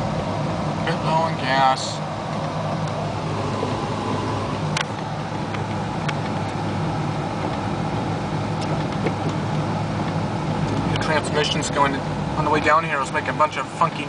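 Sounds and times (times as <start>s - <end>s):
car engine humming: 0.0s - 14.0s
road noise: 0.0s - 14.0s.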